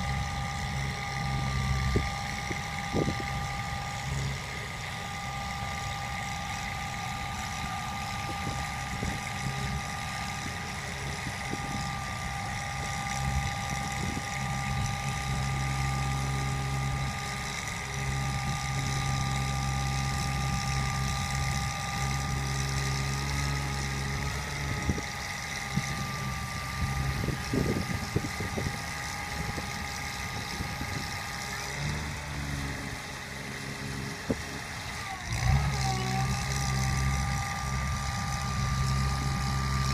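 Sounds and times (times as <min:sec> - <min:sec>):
steady whine: 0:00.0 - 0:39.9
truck engine hum: 0:00.0 - 0:39.9.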